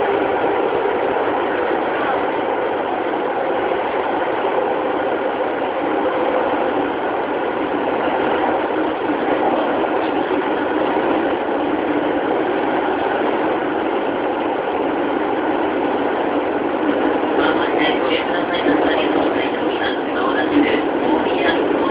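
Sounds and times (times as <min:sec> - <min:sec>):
electric train running rumble: 0:00.0 - 0:21.9.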